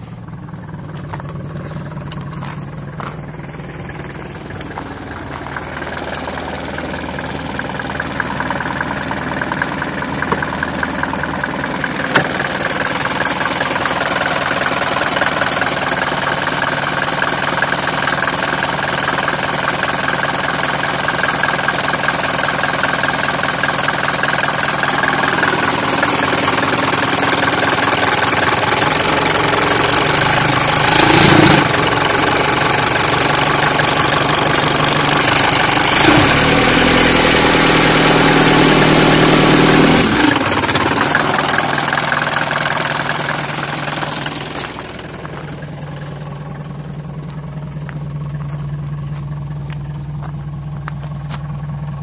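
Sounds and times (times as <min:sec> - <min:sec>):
diesel engine idling clatter: 0:00.0 - 0:52.0.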